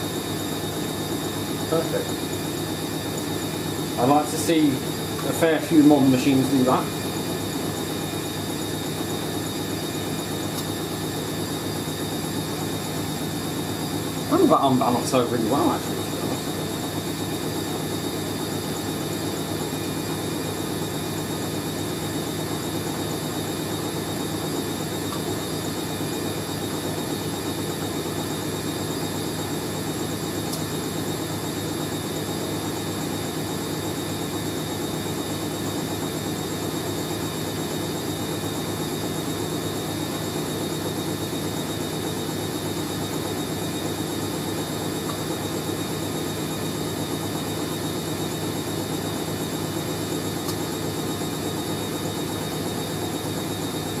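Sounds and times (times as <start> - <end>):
washing machine spinning with whine: 0.0 - 54.0.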